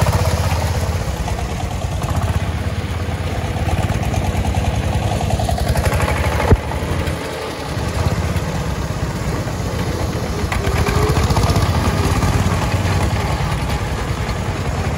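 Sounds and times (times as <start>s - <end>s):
diesel engines chugging: 0.0s - 14.9s.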